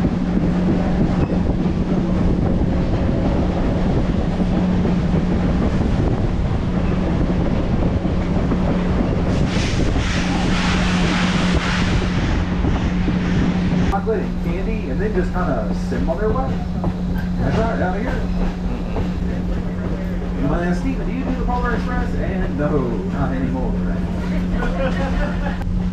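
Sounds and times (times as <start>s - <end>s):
constant hum: 0.0s - 25.9s
train rolling on track: 0.0s - 25.9s
wind on microphone: 0.0s - 25.9s.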